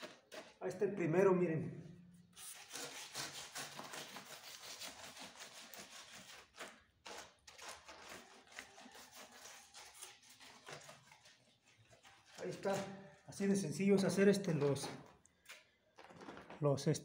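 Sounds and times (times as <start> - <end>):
stick scraping cement mix: 0.0 - 1.0, 2.3 - 16.6.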